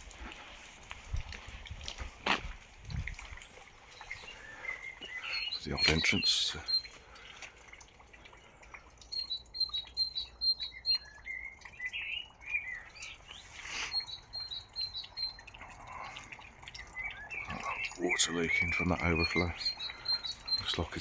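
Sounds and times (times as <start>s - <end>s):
small songbirds singing: 2.9s - 21.0s.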